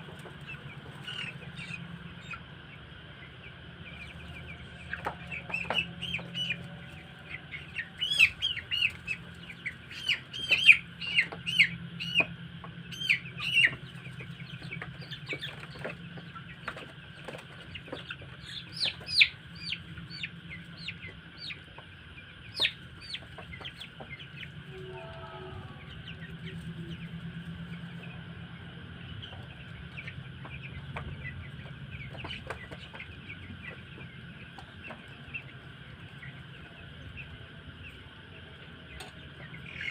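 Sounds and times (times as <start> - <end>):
chicks cheeping: 0.0 - 39.9
steady low hum: 0.0 - 39.9.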